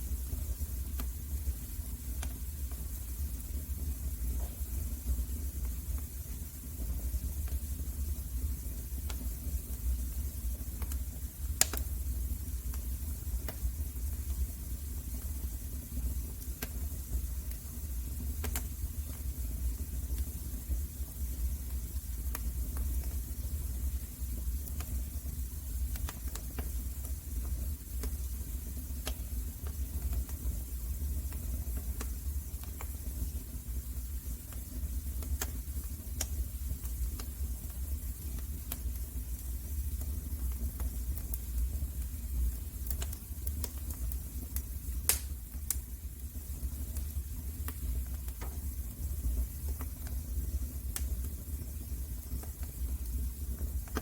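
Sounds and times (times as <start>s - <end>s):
low rumble of flames: 0.0s - 54.0s
wood fire pops and snaps: 0.2s - 3.4s, 4.2s - 6.2s, 6.8s - 8.1s, 8.9s - 54.0s.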